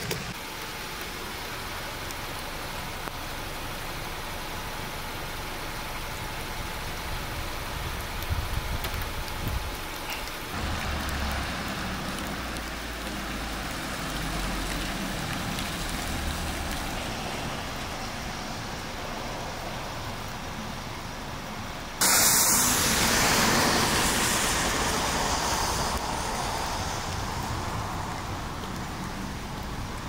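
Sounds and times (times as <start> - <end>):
rain hiss: 0.0 - 30.0
road traffic: 0.0 - 30.0
vehicle rumble: 0.0 - 30.0.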